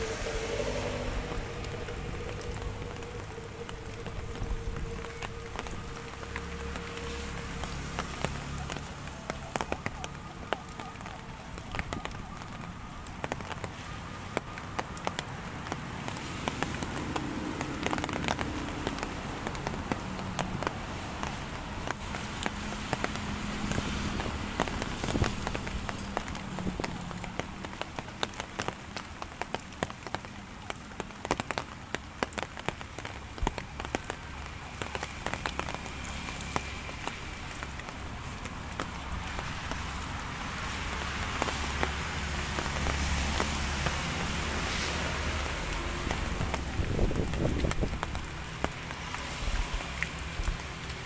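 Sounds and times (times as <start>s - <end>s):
drizzle falling on leaves: 0.0s - 51.0s
small drip ticks: 0.5s - 51.0s.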